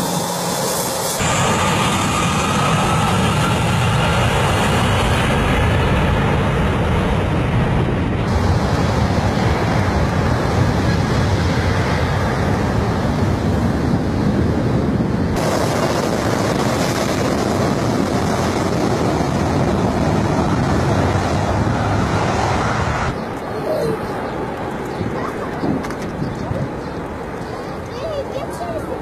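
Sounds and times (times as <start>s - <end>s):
jet engines roaring: 0.0s - 29.0s
wind buffeting microphone: 1.2s - 29.0s.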